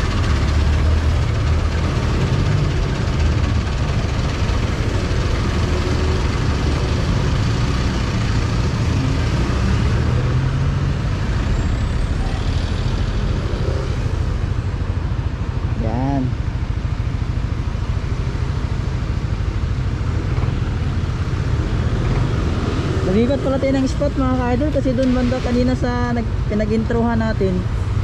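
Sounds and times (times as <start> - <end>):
motorcycle engine and road rumble: 0.0 - 28.0.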